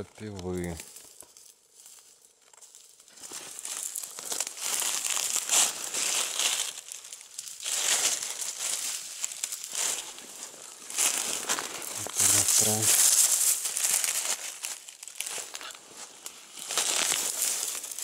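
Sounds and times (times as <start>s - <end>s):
dry leaves rustling and crackling: 0.0s - 18.0s.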